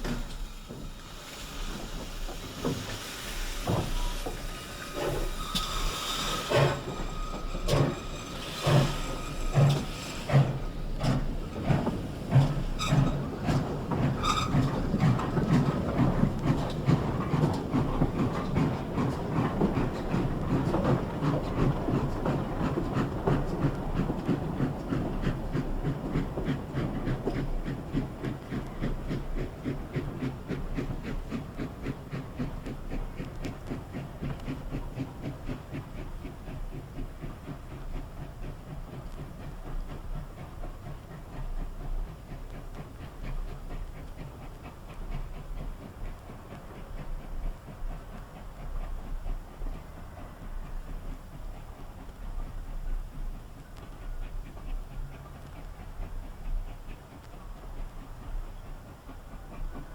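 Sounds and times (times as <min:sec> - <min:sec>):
steam hissing: 0:00.0 - 0:59.9
steam locomotive running: 0:00.0 - 0:59.9.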